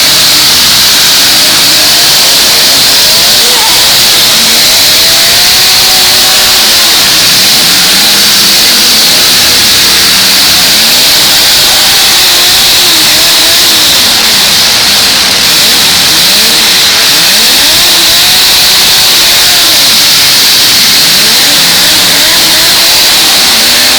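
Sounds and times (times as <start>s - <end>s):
car engines revving: 0.0s - 23.9s.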